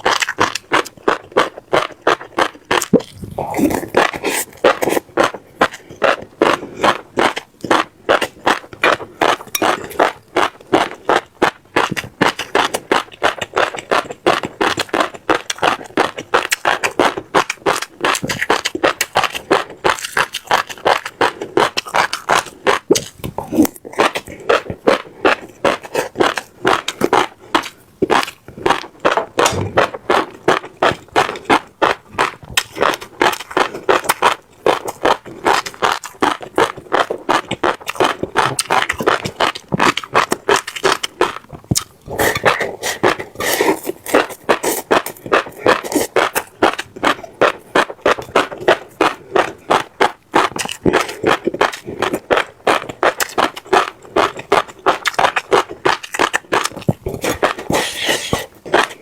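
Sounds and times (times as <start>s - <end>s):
crunchy chewing of seeds: 0.0s - 59.0s.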